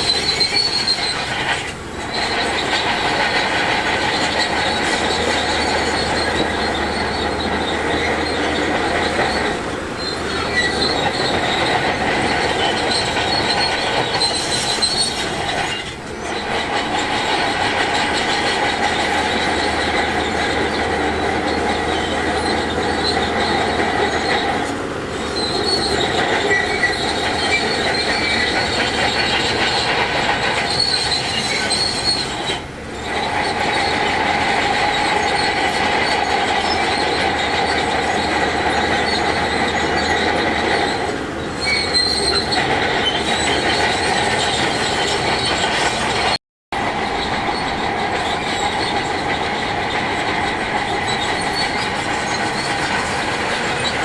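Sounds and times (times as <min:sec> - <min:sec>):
high-pitched metallic squeal: 0:00.0 - 0:46.4, 0:47.0 - 0:54.0
heavy machinery engine running: 0:00.0 - 0:54.0.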